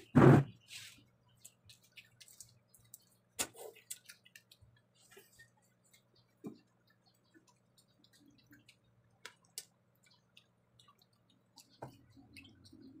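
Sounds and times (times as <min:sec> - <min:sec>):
chewing clicks: 0:01.4 - 0:13.0.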